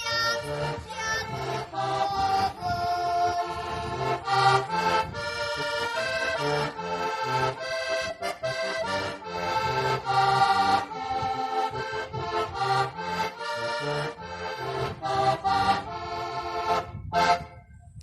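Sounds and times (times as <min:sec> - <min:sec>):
button accordion playing folk tune: 0:00.0 - 0:17.6.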